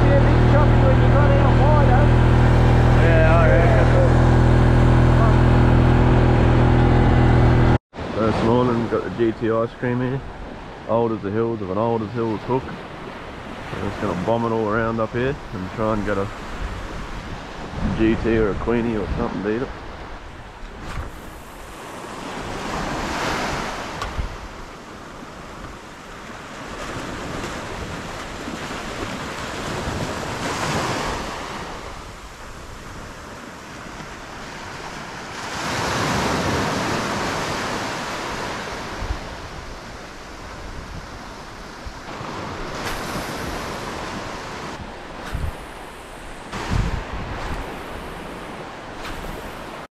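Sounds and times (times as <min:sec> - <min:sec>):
wind rumbling on microphone: 0:00.0 - 0:08.1, 0:15.4 - 0:49.9
waves washing up a beach: 0:08.0 - 0:49.9.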